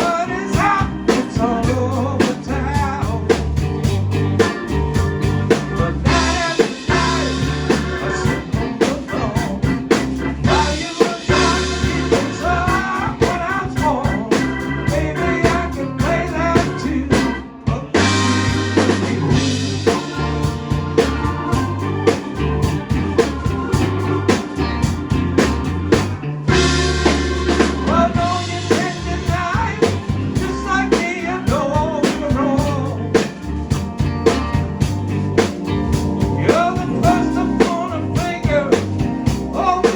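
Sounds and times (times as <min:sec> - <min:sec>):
live blues band playing: 0:00.0 - 0:39.9
steady drum beat: 0:00.0 - 0:39.9.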